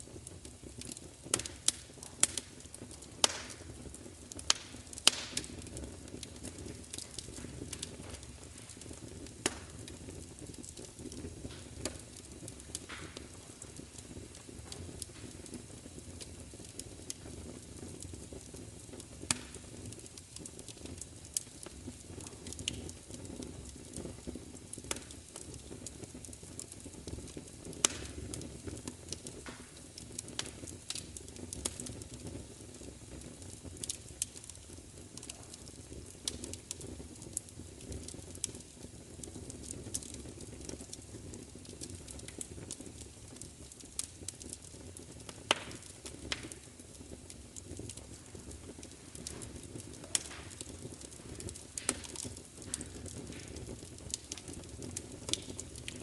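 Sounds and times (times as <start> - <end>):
low roar of flames: 0.0 - 56.0
wood fire popping and snapping: 0.0 - 56.0.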